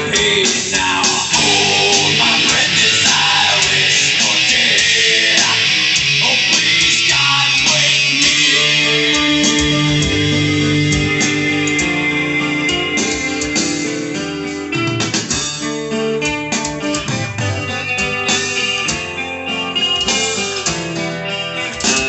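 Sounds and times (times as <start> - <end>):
electric guitar playing: 0.0 - 22.0.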